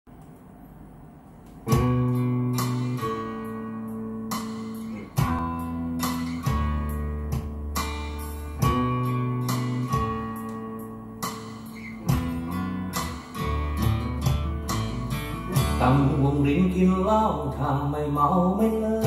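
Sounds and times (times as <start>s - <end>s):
strummed acoustic guitar chords: 1.6s - 19.0s
bass line: 1.7s - 19.0s.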